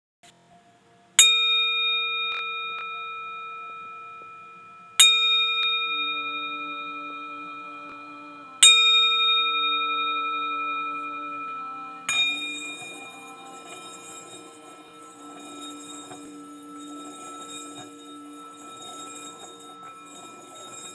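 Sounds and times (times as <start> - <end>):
singing bowl ringing: 0.5 - 20.9.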